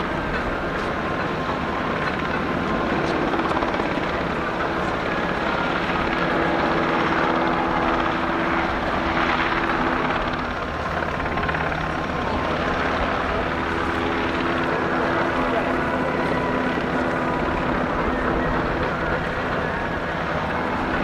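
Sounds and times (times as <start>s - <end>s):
helicopter rotor and turbine engines: 0.0s - 21.0s.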